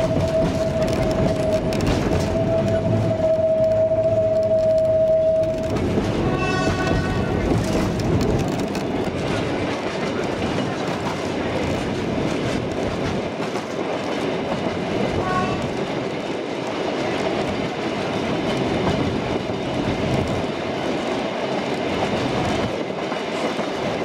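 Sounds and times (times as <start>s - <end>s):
train wheels rolling over track: 0.0s - 24.0s.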